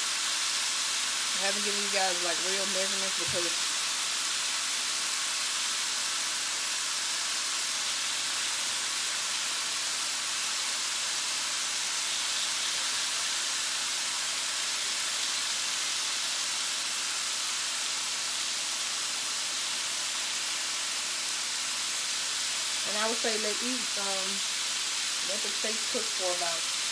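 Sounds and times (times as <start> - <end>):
steaks sizzling on a grill: 0.0 - 26.9.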